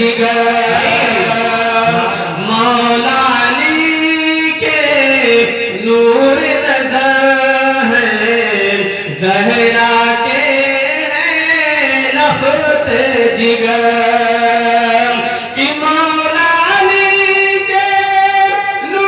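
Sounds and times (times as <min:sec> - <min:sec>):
man singing through microphone: 0:00.0 - 0:19.0.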